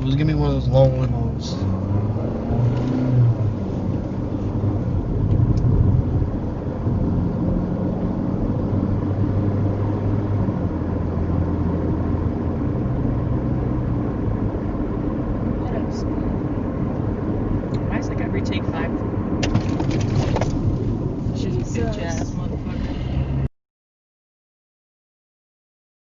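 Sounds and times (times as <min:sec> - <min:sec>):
car engine: 0:00.0 - 0:23.5
road noise: 0:00.0 - 0:23.5.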